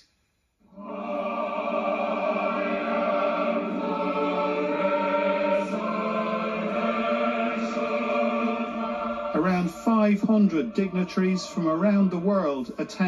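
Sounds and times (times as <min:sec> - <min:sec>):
choir singing through tv speaker: 0:00.6 - 0:13.0.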